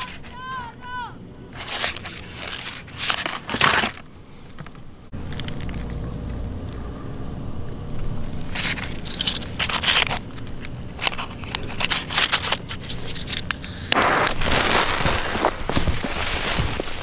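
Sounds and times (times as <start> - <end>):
handling scrapes and clicks on stony ground: 0.0 - 0.8, 1.5 - 6.8, 7.9 - 17.0.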